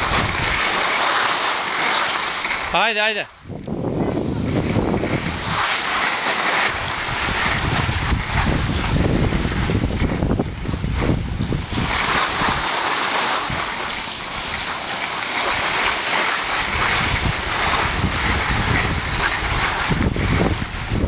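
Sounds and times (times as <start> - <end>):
wind buffeting microphone: 0.0 - 0.8, 3.4 - 12.7, 13.4 - 14.7, 15.5 - 21.0
skis hissing on snow: 0.0 - 3.3, 4.1 - 21.0.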